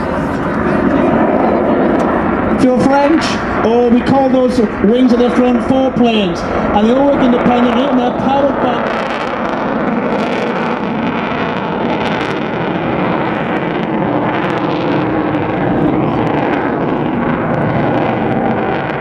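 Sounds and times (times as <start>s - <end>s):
jet flying overhead: 0.0s - 19.0s.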